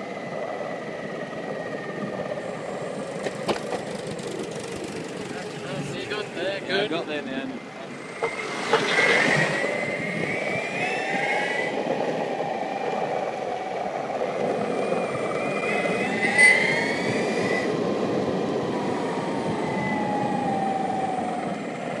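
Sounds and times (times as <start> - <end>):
wheels rumbling on asphalt: 0.0 - 22.0
electric motors whining: 3.0 - 22.0.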